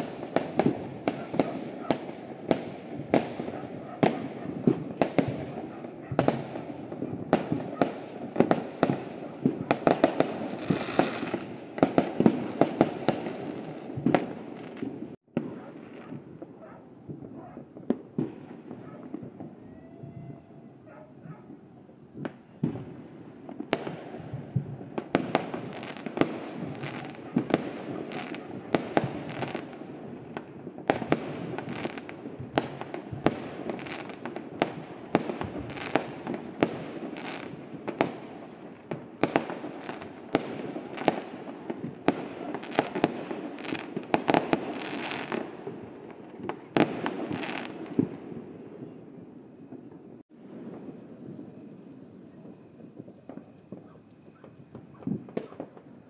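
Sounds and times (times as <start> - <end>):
fireworks bangs: 0.0 - 56.0
rumble and crackle of fireworks: 0.0 - 56.0.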